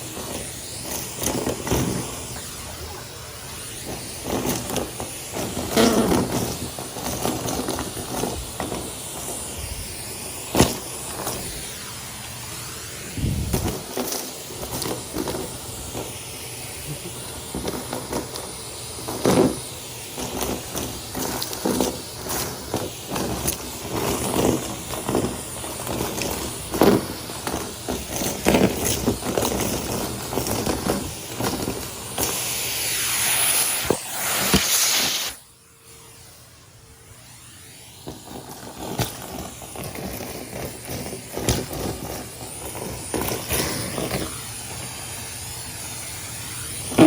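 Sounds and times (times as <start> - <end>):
debris rattling up hose: 0.0 - 35.4, 38.0 - 47.0
loud hiss: 0.0 - 47.0
vacuum cleaner running: 0.0 - 47.0.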